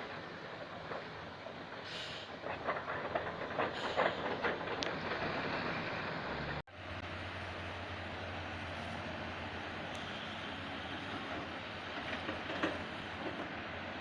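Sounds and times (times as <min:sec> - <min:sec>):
excavator engine: 0:00.0 - 0:14.0.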